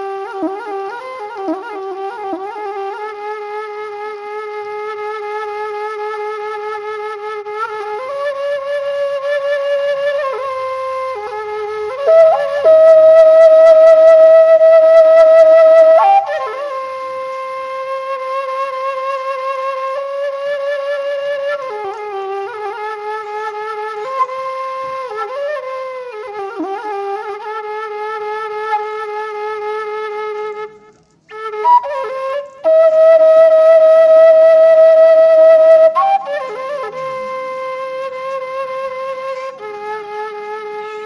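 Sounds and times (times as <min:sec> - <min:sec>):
solo flute melody: 0:00.0 - 0:41.0.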